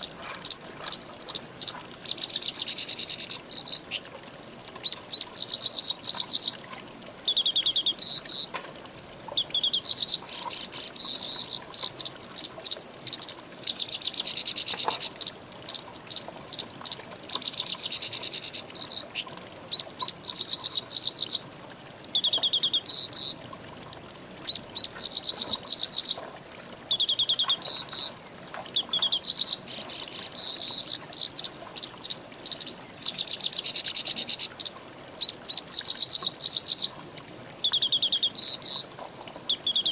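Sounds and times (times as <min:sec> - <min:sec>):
songbird singing: 0:00.0 - 0:04.1, 0:04.8 - 0:23.7, 0:24.4 - 0:39.9.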